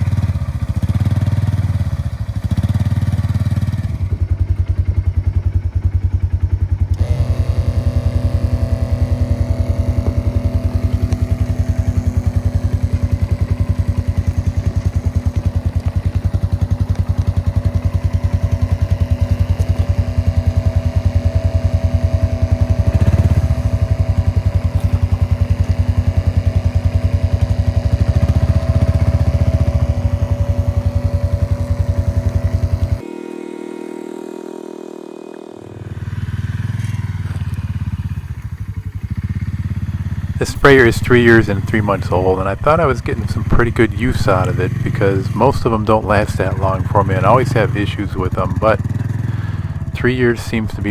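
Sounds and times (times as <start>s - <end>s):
steady whine: 0.0s - 50.9s
utility vehicle engine running: 0.0s - 50.9s.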